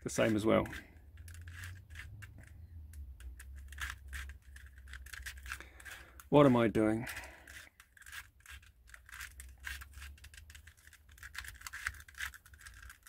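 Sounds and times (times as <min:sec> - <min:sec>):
twisty puzzle clicking and scraping: 0:00.0 - 0:13.0.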